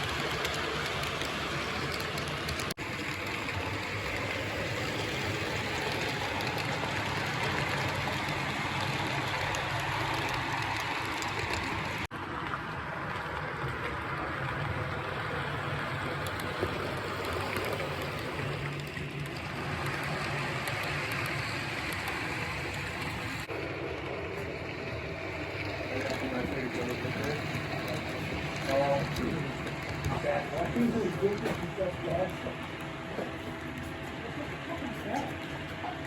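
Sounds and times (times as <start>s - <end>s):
model train rolling on track: 0.0s - 36.0s.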